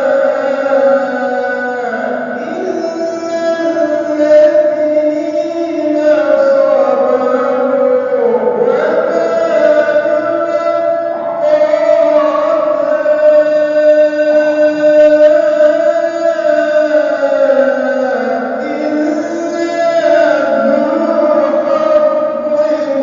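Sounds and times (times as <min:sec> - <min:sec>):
person reciting melodically: 0:00.0 - 0:23.0.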